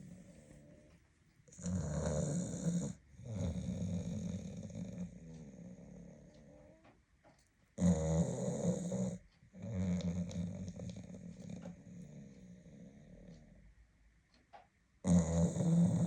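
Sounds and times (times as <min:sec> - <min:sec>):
dog snoring: 0:00.0 - 0:07.0, 0:07.8 - 0:13.7, 0:15.0 - 0:16.0.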